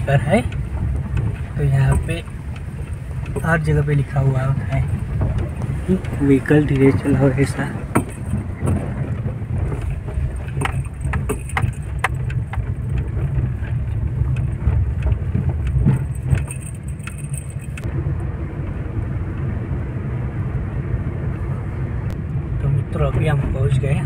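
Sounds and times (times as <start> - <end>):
car engine and tyres rumbling: 0.0 - 24.0
clicks and rattles over rough road: 0.0 - 24.0.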